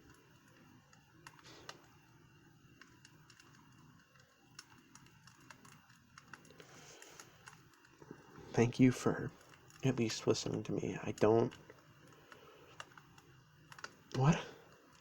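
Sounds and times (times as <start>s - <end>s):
crackles of burning wood: 0.0s - 15.0s
soft low hiss: 0.0s - 15.0s.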